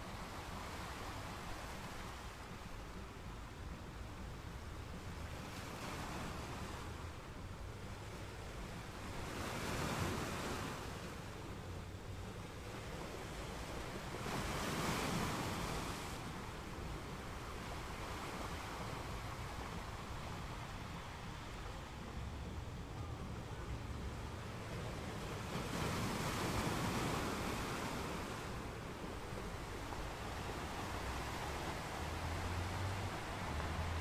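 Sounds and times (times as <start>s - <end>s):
sea waves washing: 0.0s - 34.0s.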